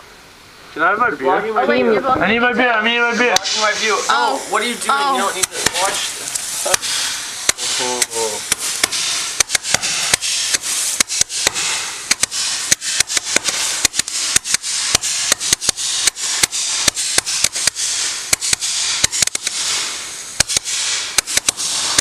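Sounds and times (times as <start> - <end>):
firework fountain hissing: 0.0 - 22.0
sharp crackling pops: 3.1 - 22.0.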